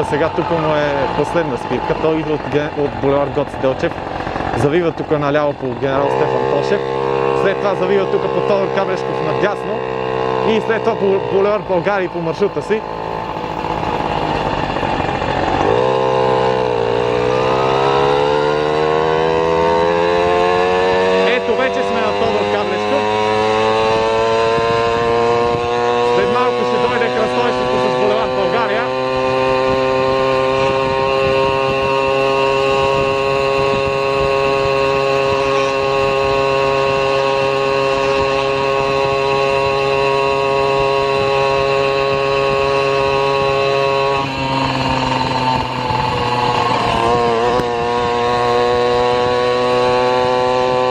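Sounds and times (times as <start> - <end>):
vehicle motor accelerating: 0.0 - 50.9.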